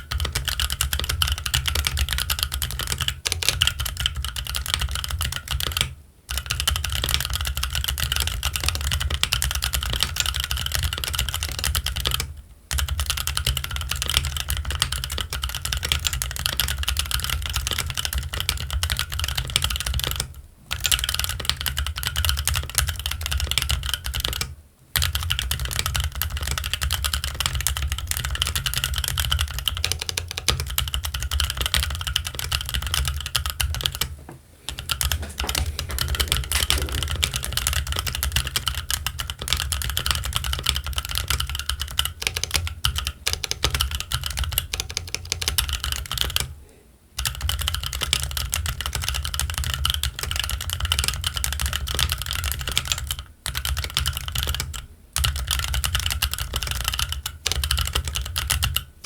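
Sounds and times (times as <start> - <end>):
fast mechanical keyboard typing: 0.0 - 34.1, 34.7 - 46.5, 47.2 - 58.9.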